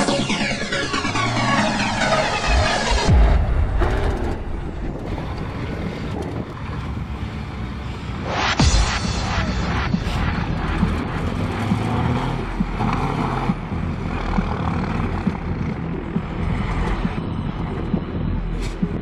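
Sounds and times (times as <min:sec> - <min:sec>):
diesel truck engines rumbling: 0:00.0 - 0:19.0.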